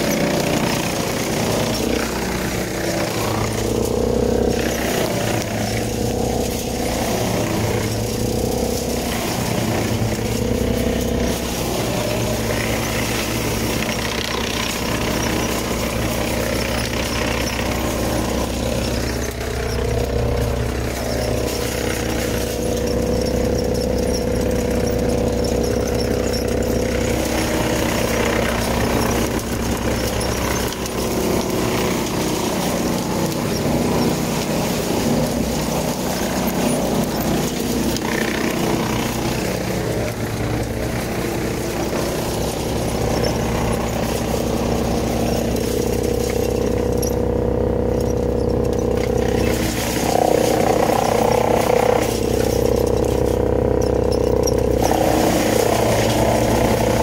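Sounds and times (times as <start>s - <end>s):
wood chipper chipping branches: 0.0s - 57.0s.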